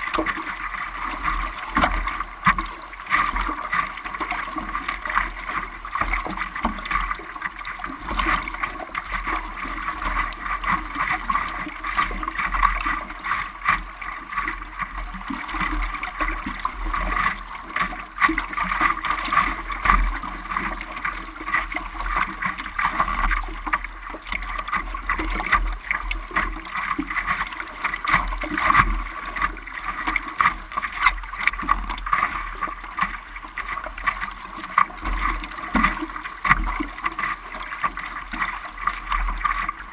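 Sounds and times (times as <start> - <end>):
sea water splashing: 0.0 - 39.9.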